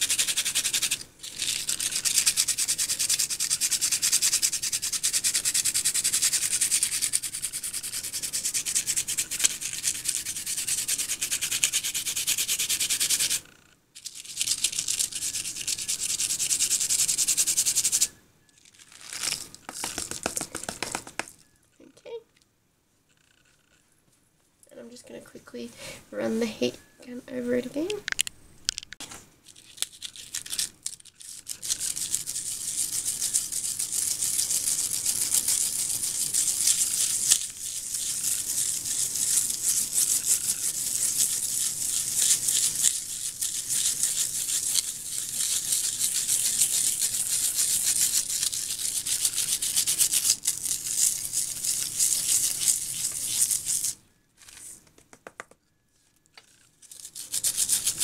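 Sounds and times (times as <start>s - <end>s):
fingers rubbing salt crystals off paper: 0.0s - 13.4s, 14.0s - 18.1s, 18.8s - 21.4s, 29.5s - 55.0s, 56.4s - 58.0s.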